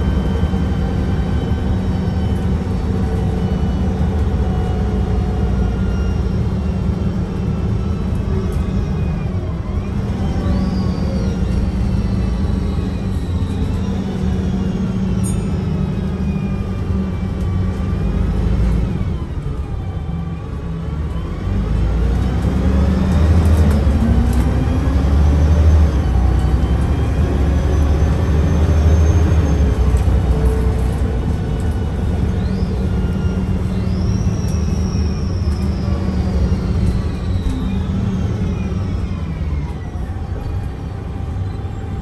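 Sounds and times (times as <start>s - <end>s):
bus engine rumbling: 0.0s - 42.0s
transmission whining: 0.0s - 42.0s.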